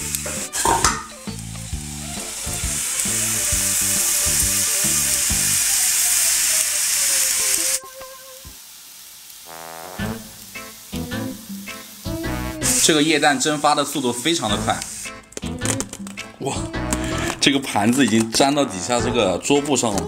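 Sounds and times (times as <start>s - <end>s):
liquid nitrogen hissing and sizzling: 0.0s - 20.0s.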